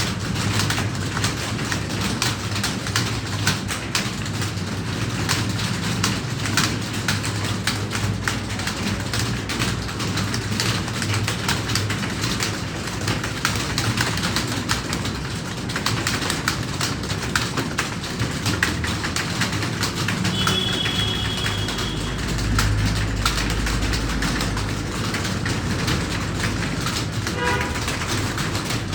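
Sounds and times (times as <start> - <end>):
many keyboards clattering: 0.0 - 28.9.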